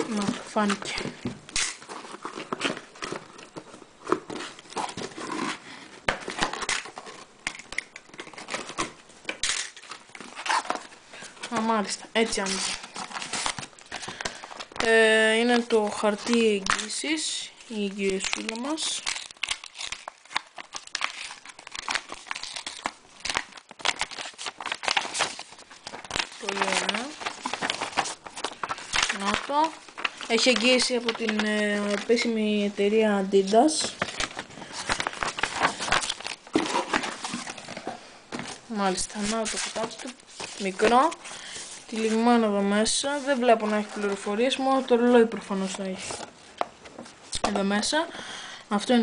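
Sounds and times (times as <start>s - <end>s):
cardboard crinkling and scraping: 0.0s - 17.0s, 17.7s - 47.7s.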